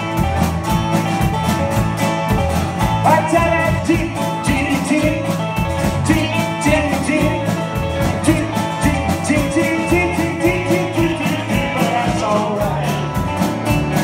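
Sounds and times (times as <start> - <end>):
rockabilly band playing: 0.0 - 14.0.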